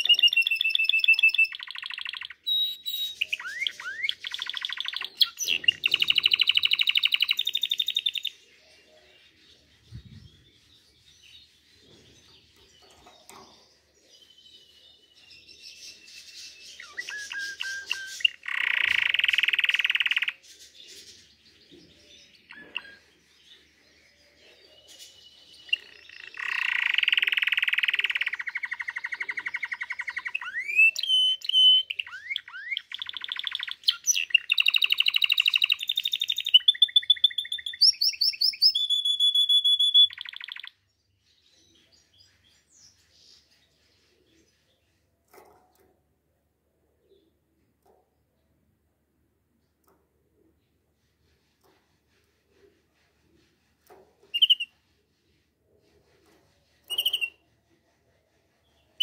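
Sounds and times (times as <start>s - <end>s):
canary singing rolling trills: 0.0s - 59.0s.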